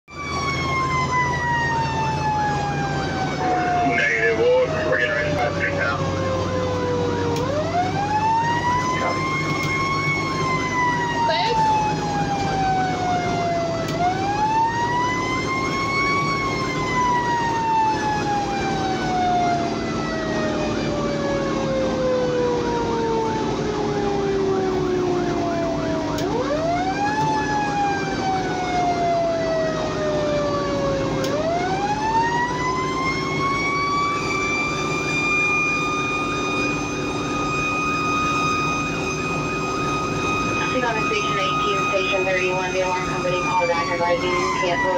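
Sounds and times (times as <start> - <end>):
fire engine siren: 0.0 - 44.9
truck engine and road noise: 0.1 - 44.9.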